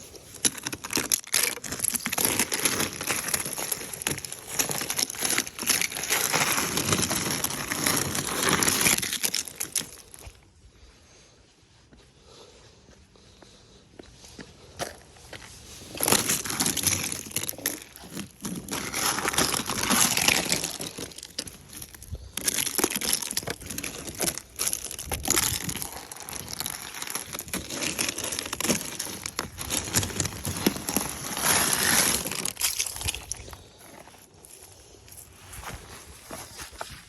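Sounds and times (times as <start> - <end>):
ice scraping and cracking: 0.0 - 10.4, 14.8 - 37.0.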